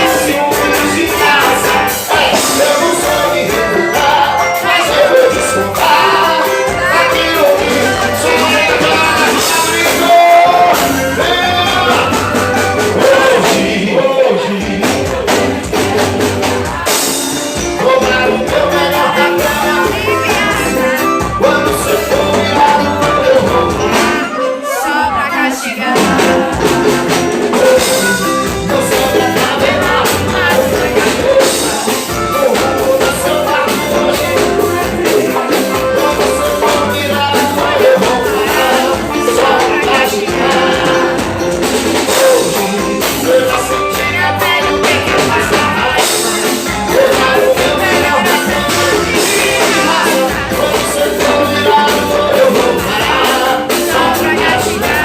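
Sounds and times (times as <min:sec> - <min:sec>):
live band playing: 0:00.0 - 0:55.0
person singing: 0:00.0 - 0:55.0.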